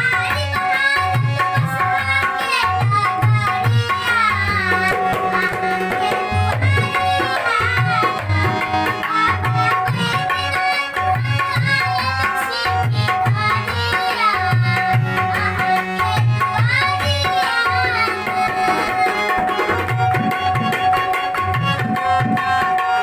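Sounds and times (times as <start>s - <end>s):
boy singing: 0.0s - 23.0s
hand drum rhythm: 0.0s - 23.0s
harmonium chords: 0.0s - 23.0s.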